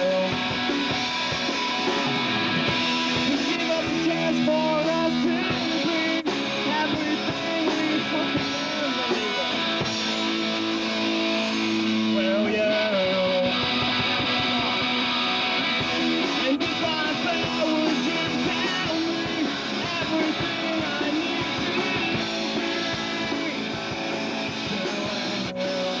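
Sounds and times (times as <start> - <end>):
electric guitar: 0.0 - 26.0
rock band playing through pa: 0.0 - 26.0.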